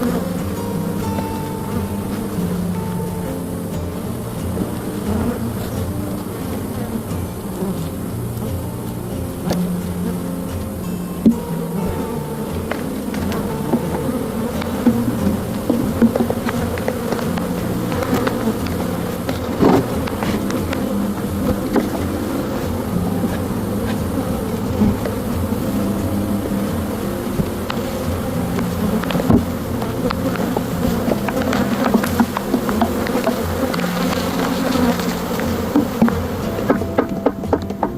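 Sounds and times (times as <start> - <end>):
honey bees buzzing: 0.0 - 37.9.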